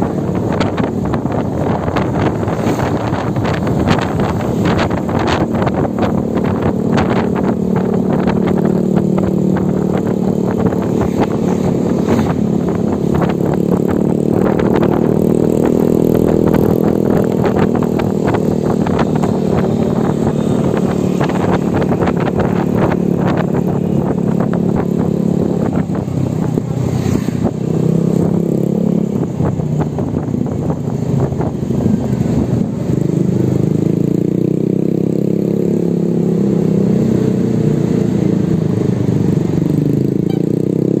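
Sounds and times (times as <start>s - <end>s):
motorbike engine running: 0.0s - 35.6s.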